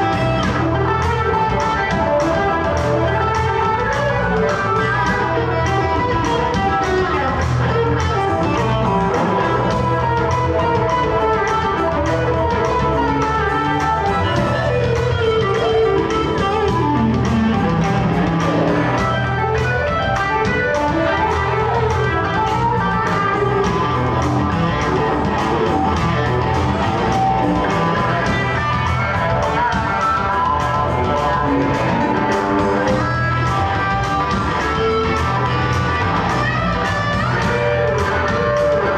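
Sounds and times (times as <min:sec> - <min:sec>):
bass guitar: 0:00.0 - 0:38.9
drums: 0:00.0 - 0:38.9
electric guitar lines: 0:00.0 - 0:38.9.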